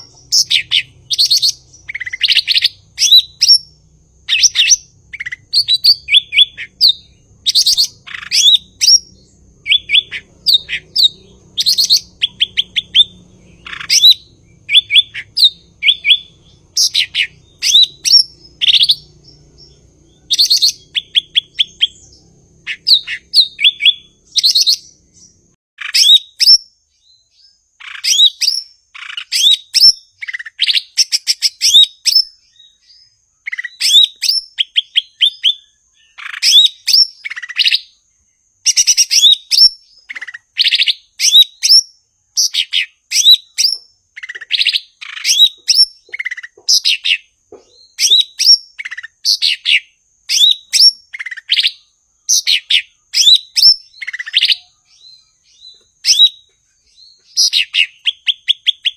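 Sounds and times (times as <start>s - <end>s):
songbird singing: 0.0s - 58.9s.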